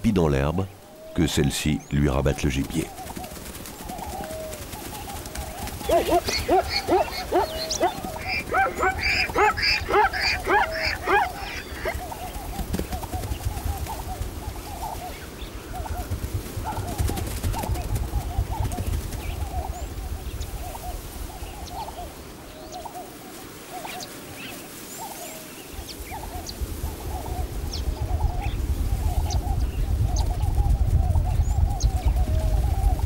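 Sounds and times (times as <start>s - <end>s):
low wind rumble: 0.0s - 22.8s, 25.6s - 33.0s
birds calling: 0.0s - 33.0s.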